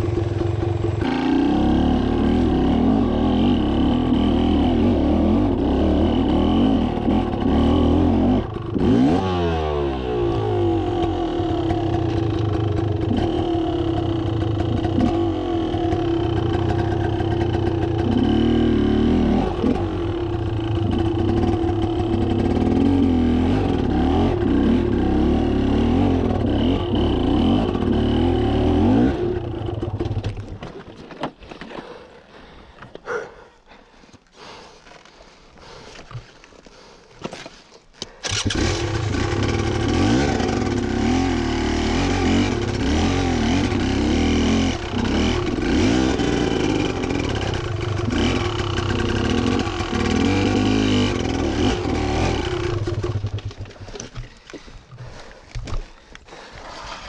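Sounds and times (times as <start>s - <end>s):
motorcycle engine revving: 0.0s - 30.3s, 38.2s - 54.3s.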